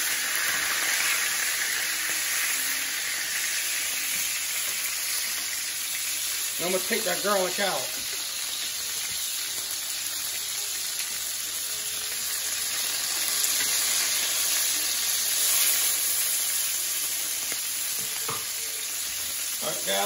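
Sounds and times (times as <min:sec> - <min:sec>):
steaks sizzling in hot oil: 0:00.0 - 0:20.0.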